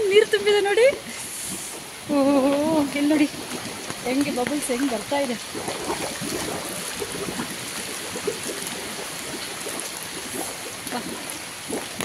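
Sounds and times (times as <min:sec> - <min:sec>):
bubbles welling up: 0:00.0 - 0:12.0
heavy rain hiss: 0:00.0 - 0:12.0
water flowing and gurgling: 0:00.0 - 0:12.0.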